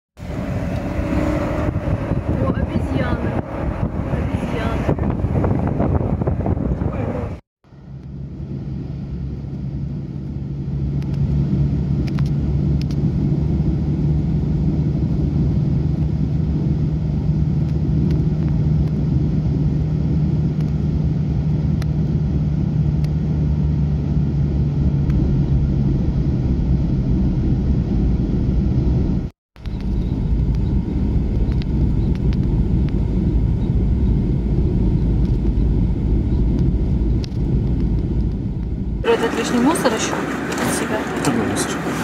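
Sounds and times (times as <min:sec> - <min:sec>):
car engine drone: 0:00.2 - 0:42.0
road rumble: 0:00.2 - 0:42.0.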